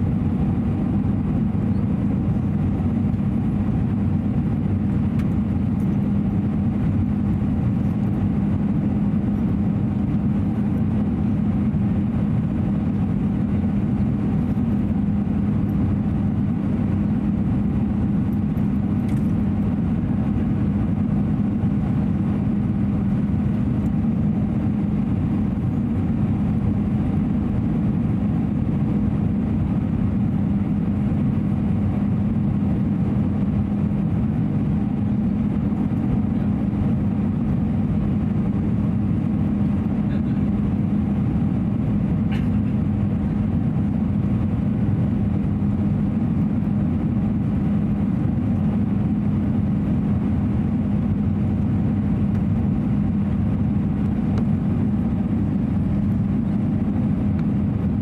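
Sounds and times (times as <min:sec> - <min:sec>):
airplane cabin engine drone: 0:00.0 - 0:58.0
low hum: 0:00.0 - 0:58.0.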